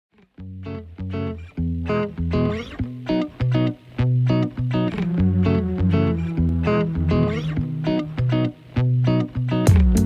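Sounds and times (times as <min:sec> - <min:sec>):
plucked guitar notes: 0:00.1 - 0:10.0.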